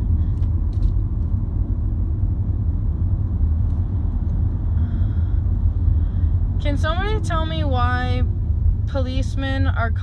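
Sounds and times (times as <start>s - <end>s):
car rumble inside cabin: 0.0s - 10.0s.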